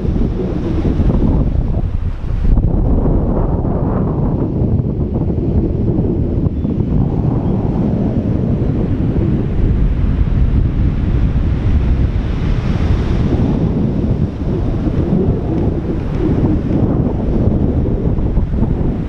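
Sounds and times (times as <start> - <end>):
ocean surf on a beach: 0.0 - 19.0
wind buffeting the microphone: 0.0 - 19.0.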